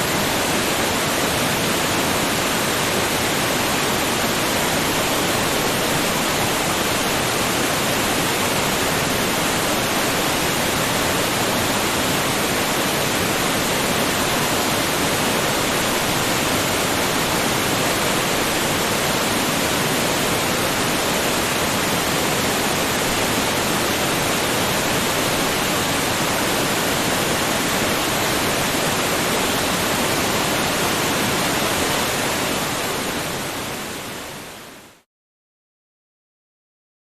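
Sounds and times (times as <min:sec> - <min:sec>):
waterfall rushing: 0:00.0 - 0:34.8.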